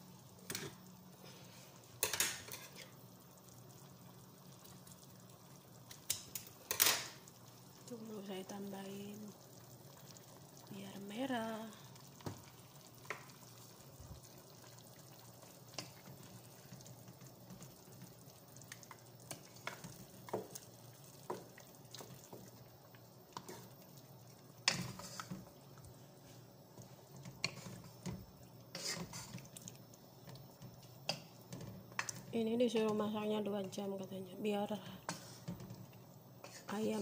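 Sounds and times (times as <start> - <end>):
faint frying sizzle: 0.0 - 37.0.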